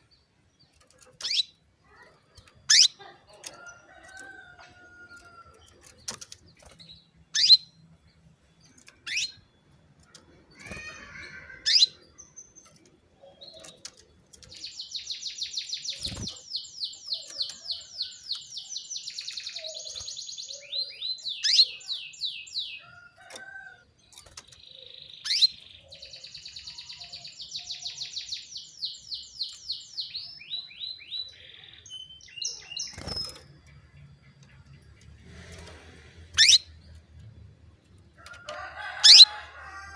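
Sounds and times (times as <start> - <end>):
canary chirps and trills: 0.0 - 39.9.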